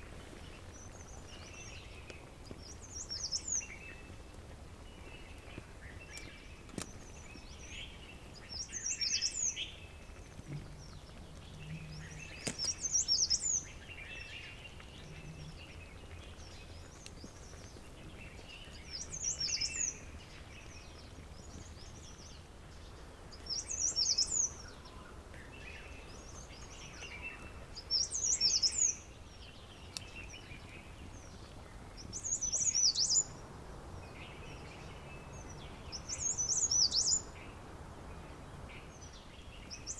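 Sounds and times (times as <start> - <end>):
faint background noise: 0.0 - 39.9
songbird singing: 0.0 - 39.9.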